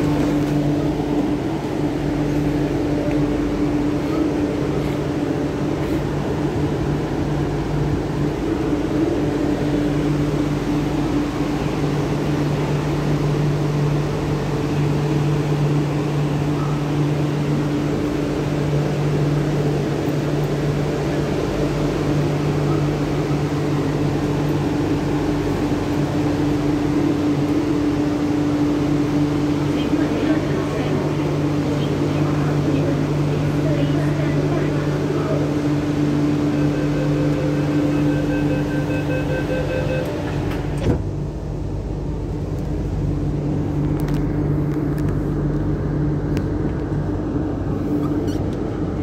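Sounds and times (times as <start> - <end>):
constant low tones: 0.0 - 49.0
train equipment hum: 0.0 - 49.0.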